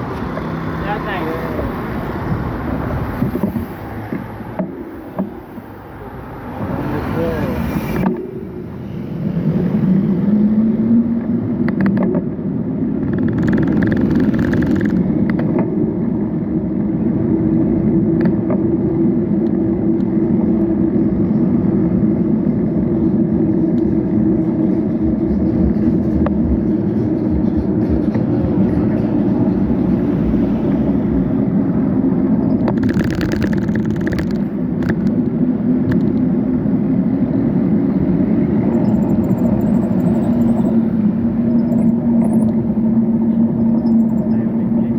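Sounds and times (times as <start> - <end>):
road vehicle drone: 0.0 - 44.9.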